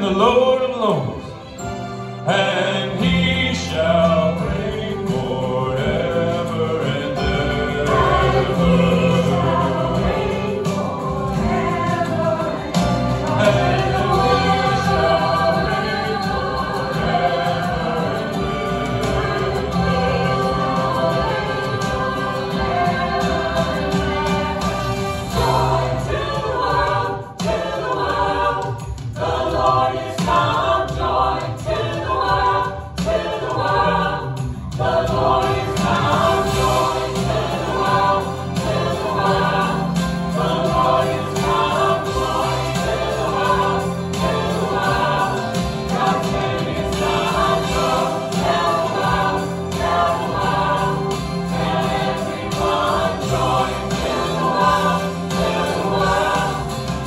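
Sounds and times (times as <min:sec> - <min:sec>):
choir singing: 0:00.0 - 0:57.0
instrumental accompaniment: 0:00.8 - 0:57.0.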